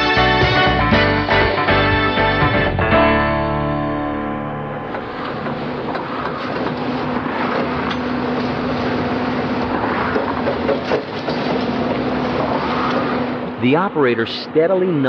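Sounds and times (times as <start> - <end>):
excavator engine drone: 0.0 - 15.0.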